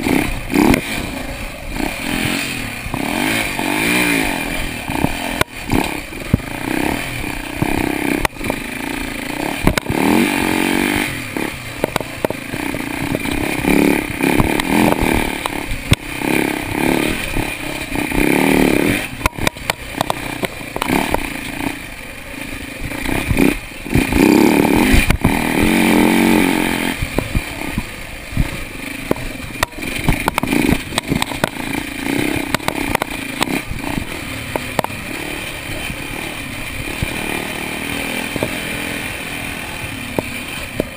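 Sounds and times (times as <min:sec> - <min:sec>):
bike rattling over bumps: 0:00.0 - 0:40.9
dirt bike engine revving: 0:00.0 - 0:40.9.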